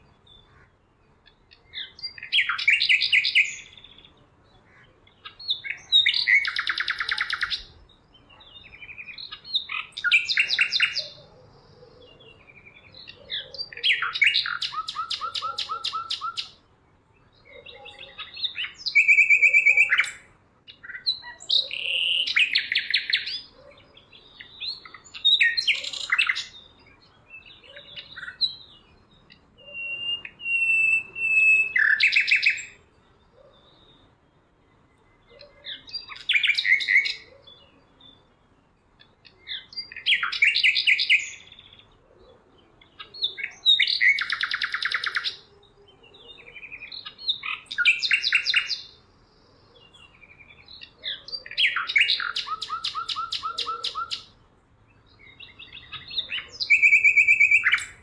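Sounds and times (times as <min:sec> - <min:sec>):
songbird trilling and whistling: 0:01.2 - 0:04.1, 0:05.2 - 0:16.6, 0:17.4 - 0:32.8, 0:35.1 - 0:38.2, 0:39.0 - 0:54.4, 0:55.0 - 0:58.0.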